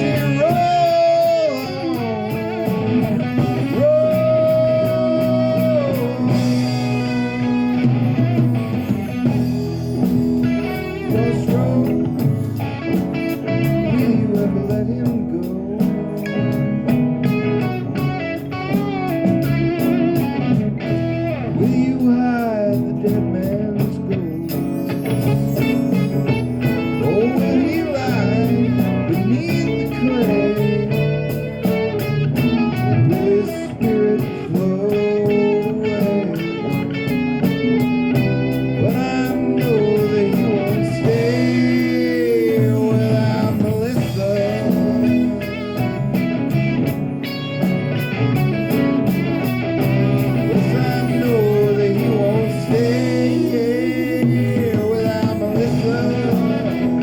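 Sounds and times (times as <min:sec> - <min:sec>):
bluesy electric guitar lead: 0:00.0 - 0:57.0
rock band playing: 0:00.0 - 0:57.0.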